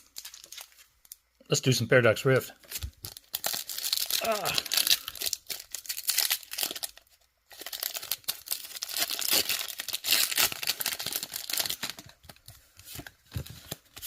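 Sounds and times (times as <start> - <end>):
foil wrapper crinkling and tearing: 0.0 - 1.2, 2.6 - 14.0.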